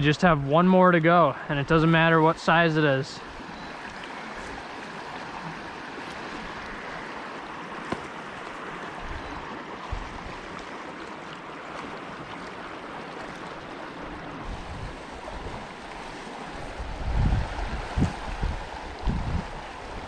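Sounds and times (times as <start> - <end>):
stream rushing water: 0.0 - 20.0.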